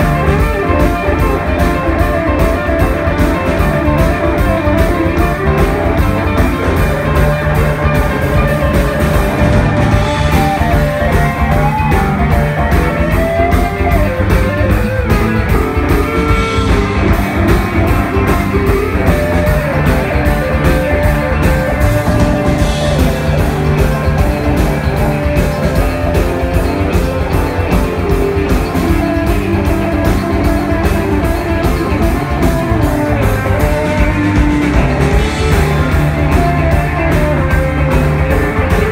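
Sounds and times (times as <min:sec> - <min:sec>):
electric guitar: 0:00.0 - 0:38.9
rock drum beat: 0:00.0 - 0:38.9.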